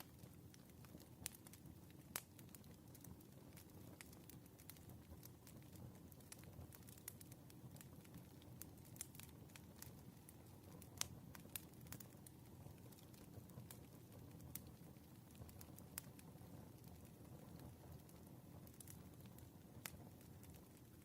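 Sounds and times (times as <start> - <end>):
burning wood rumble: 0.0 - 21.0
campfire crackling and popping: 0.0 - 21.0.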